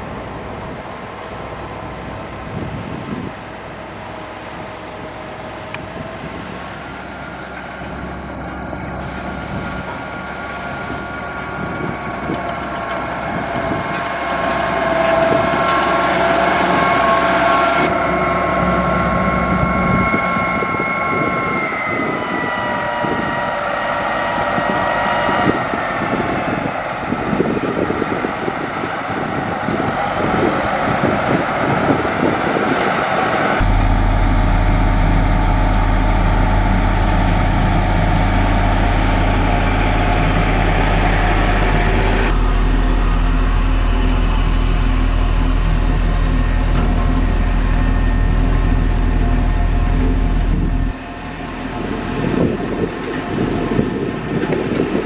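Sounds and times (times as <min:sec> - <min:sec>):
diesel engine drone: 0:00.0 - 0:55.0
heavier deeper engine drone: 0:00.0 - 0:55.0.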